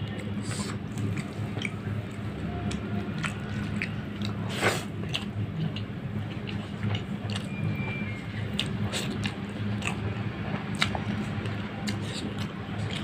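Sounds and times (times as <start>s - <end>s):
chewing and mouth smacks: 0.5s - 13.0s
fingers mashing rice wet squishes: 0.6s - 13.0s.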